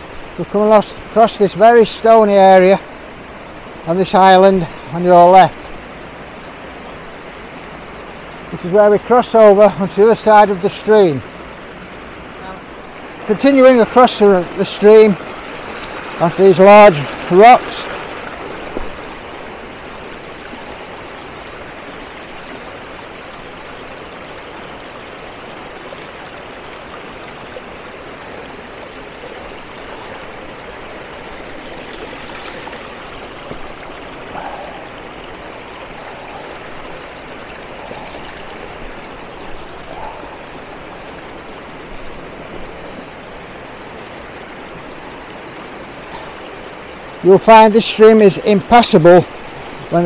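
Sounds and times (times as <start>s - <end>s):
stream rushing over stones: 0.0s - 50.0s.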